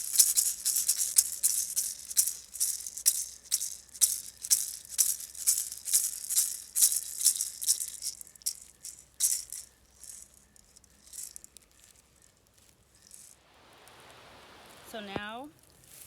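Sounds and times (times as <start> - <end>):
hand rattle shaking: 0.0 - 13.4.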